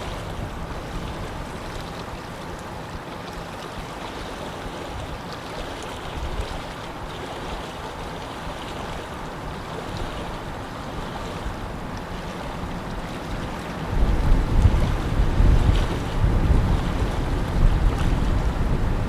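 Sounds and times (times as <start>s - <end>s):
small waves lapping: 0.0s - 19.0s
wind blowing over water: 0.0s - 19.0s.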